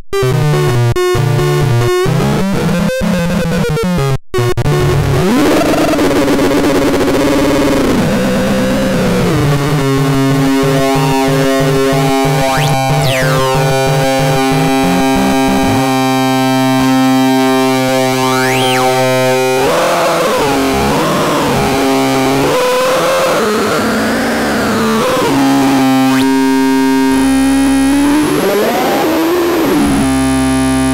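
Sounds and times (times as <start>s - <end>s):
buzzy synthesizer note: 0.2s - 30.9s.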